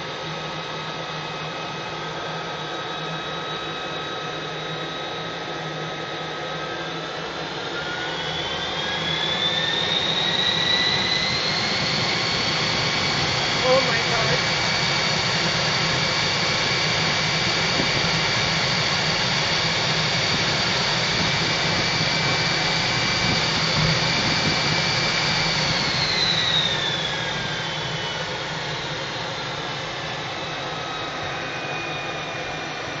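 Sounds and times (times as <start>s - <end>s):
jet engine whine and rumble: 0.0s - 33.0s.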